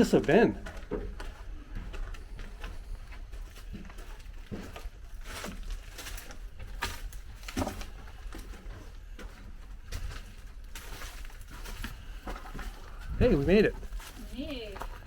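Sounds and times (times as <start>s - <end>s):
footsteps walking: 0.0s - 15.0s.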